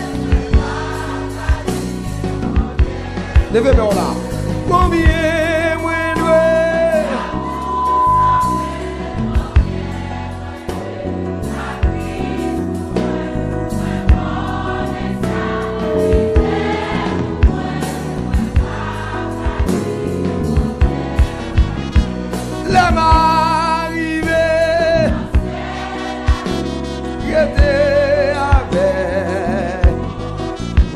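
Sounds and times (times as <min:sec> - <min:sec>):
bass: 0:00.0 - 0:30.9
choir singing: 0:00.0 - 0:30.9
drums: 0:00.0 - 0:30.9.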